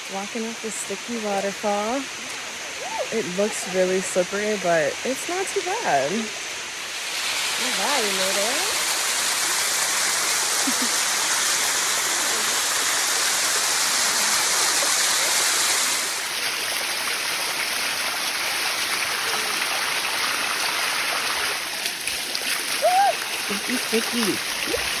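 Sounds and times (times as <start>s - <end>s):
waterfall rushing down rock: 0.2s - 25.0s.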